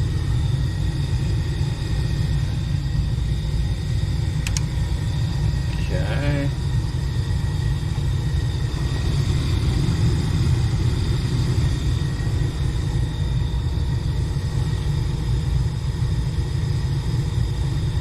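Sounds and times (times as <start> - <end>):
faint steady tones: 0.0 - 18.0
furnace low rumble: 0.0 - 18.0.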